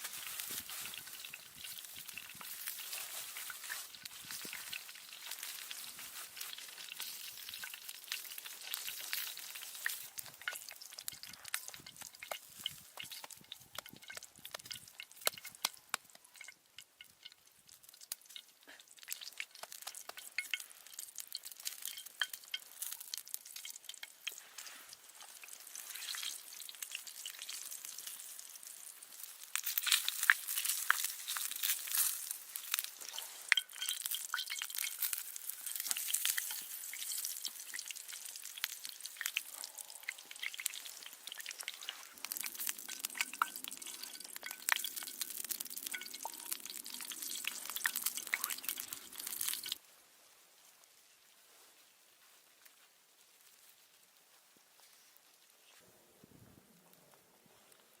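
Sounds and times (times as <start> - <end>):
food sizzling in a pan: 0.0 - 49.8.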